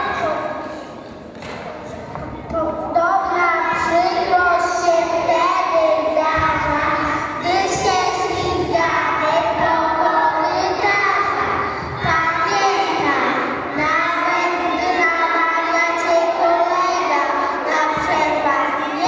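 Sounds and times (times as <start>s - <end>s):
girl singing into a microphone: 3.0s - 19.0s
children singing together: 3.1s - 19.0s.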